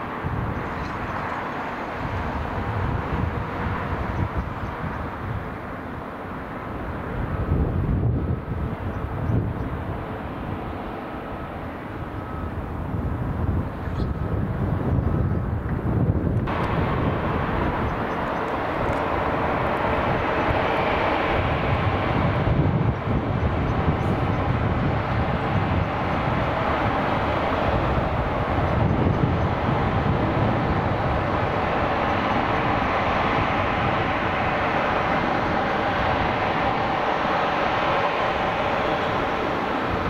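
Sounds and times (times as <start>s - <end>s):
jet engines running at taxi power: 0.0s - 40.0s.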